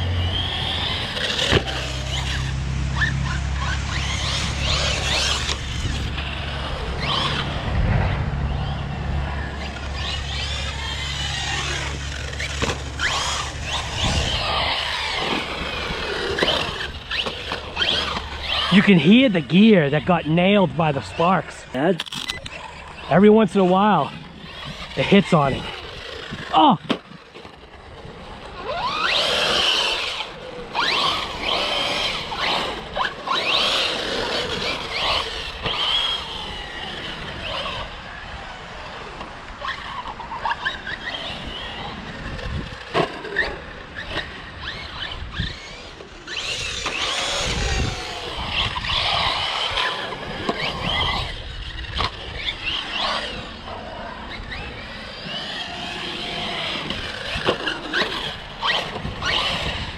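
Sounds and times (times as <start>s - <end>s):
electric rc car motor whine: 0.0s - 59.9s.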